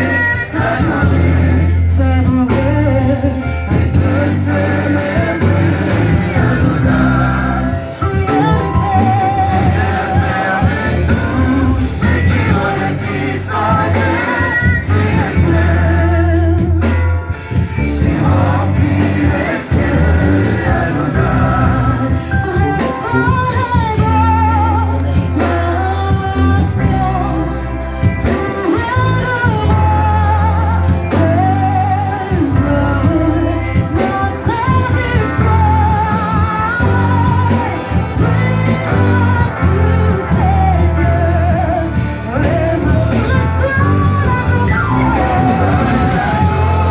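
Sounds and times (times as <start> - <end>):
amplified band with heavy bass: 0.0 - 46.9
person singing with vibrato: 0.0 - 46.9.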